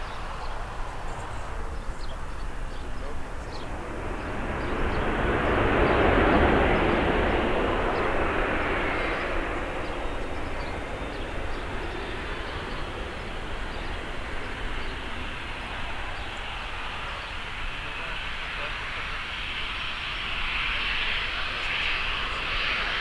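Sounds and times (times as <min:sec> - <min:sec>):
passenger aircraft passing: 0:00.0 - 0:23.0.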